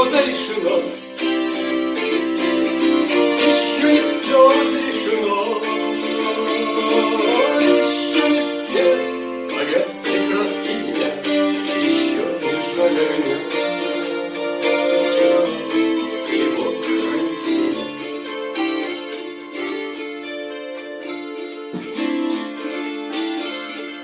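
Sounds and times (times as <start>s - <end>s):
plucked string instrument: 0.0s - 24.0s.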